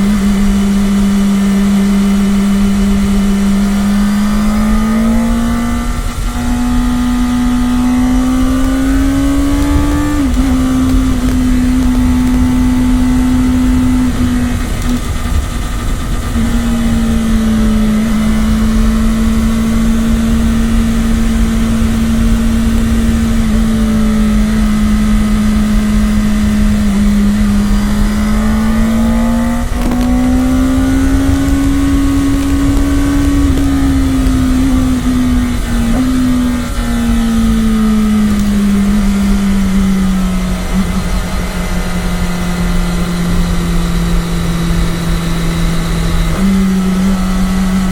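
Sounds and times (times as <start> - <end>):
low rumble: 0.0 - 47.9
motorcycle engine revving: 0.0 - 47.9.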